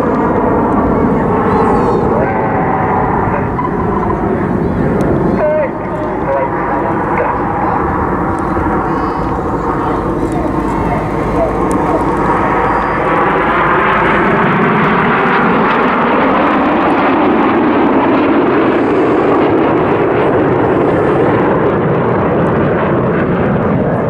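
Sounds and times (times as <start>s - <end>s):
jets roaring past: 0.0s - 24.0s.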